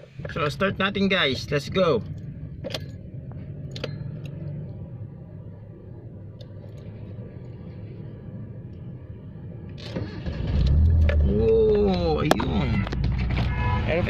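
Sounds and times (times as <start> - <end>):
low engine hum: 0.0 - 13.6.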